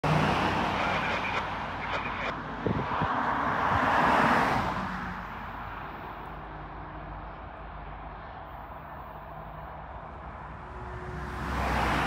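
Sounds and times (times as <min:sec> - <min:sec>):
car passing by: 0:00.0 - 0:12.0.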